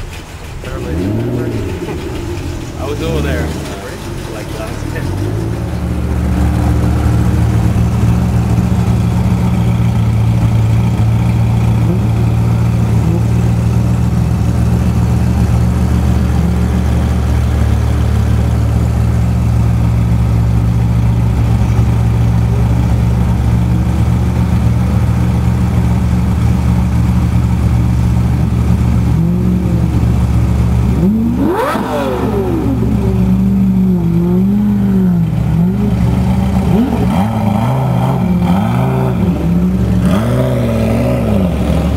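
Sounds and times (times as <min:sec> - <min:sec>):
car engine idling: 0:00.0 - 0:41.9
engine revving: 0:00.0 - 0:41.9.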